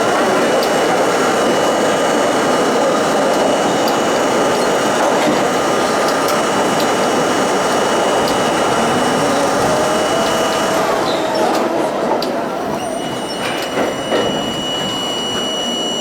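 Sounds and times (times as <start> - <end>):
subway wheels rumbling on rail: 0.0 - 16.0.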